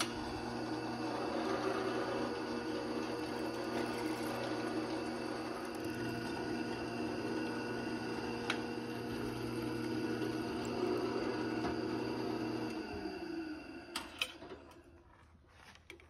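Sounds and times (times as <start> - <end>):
drill press cutting metal: 0.0 - 14.9.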